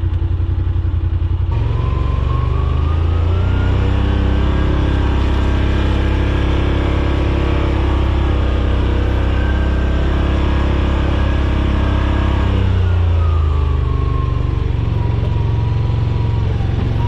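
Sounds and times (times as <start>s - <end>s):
utility vehicle engine revving: 0.0s - 17.0s.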